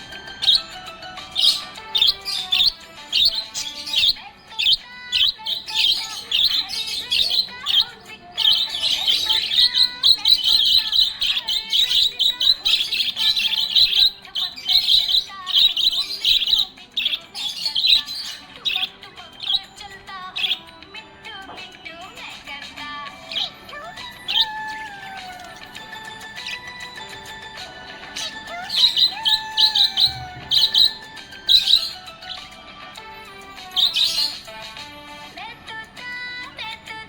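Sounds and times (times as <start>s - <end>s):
budgerigar chirping: 0.0s - 20.7s, 23.2s - 27.2s, 27.8s - 32.6s, 33.6s - 34.6s
faint music: 0.0s - 37.0s.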